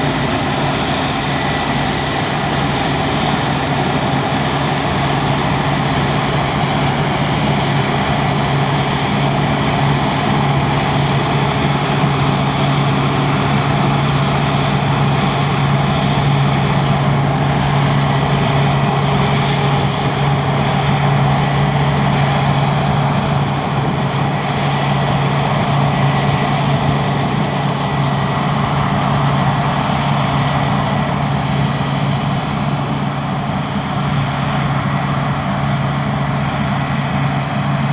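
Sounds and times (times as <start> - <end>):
diesel machinery engine running: 0.0 - 37.9.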